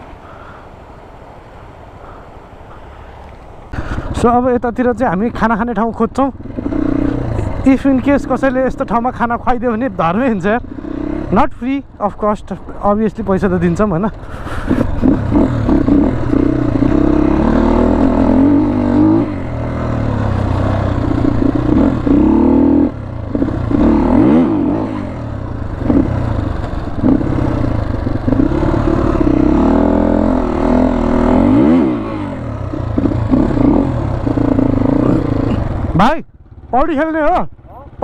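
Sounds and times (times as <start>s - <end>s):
motorcycle engine running: 5.2s - 11.6s, 13.4s - 38.0s.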